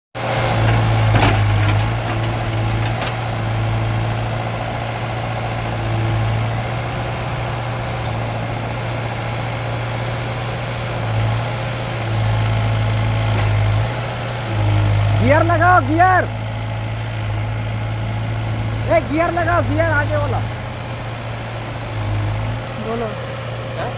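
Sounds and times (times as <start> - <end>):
diesel engine idling: 0.2 - 23.9.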